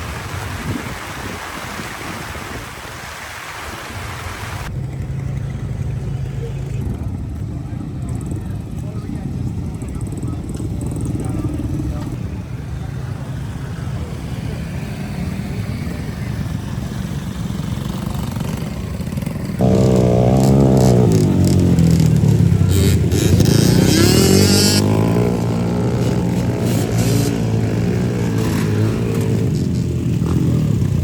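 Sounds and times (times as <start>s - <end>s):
motorcycle engines rumbling: 4.5s - 31.0s
motorcycle revving: 4.6s - 31.0s.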